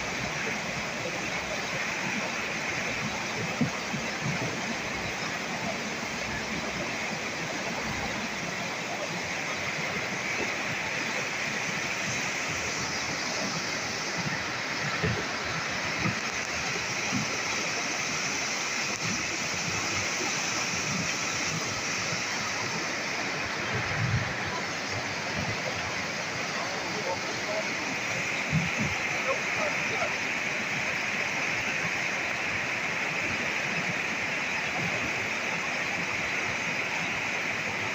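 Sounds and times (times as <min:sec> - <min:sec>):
river rushing: 0:00.0 - 0:37.9.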